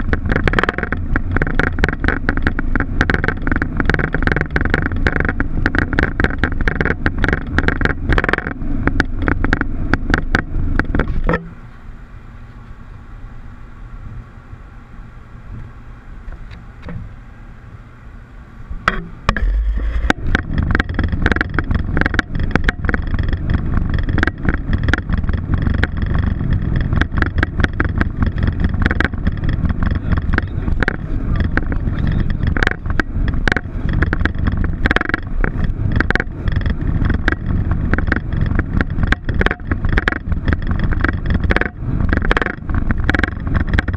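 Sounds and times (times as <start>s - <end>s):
rapid rattles and knocks: 0.0s - 11.6s, 18.8s - 43.9s
loud cockpit rumbling: 0.0s - 43.9s.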